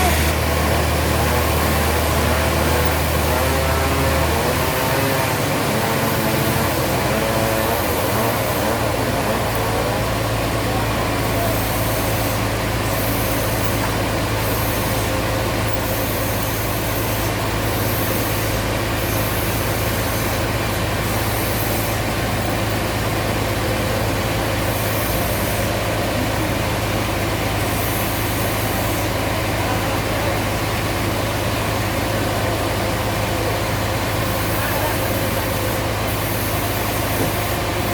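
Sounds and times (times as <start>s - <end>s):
sawmill machinery droning: 0.0s - 37.9s.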